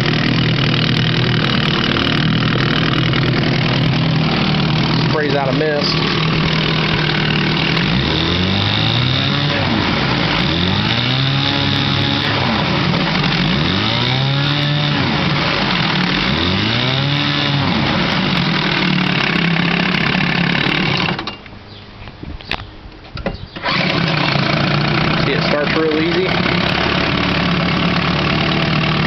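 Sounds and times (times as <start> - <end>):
outboard motor revving: 0.0 - 21.3, 23.6 - 29.0.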